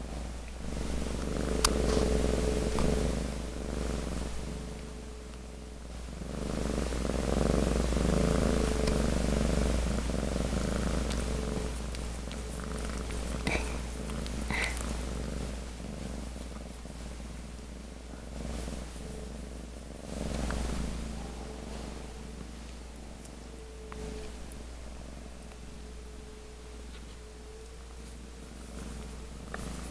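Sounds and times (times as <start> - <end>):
cat purring: 0.0 - 29.9.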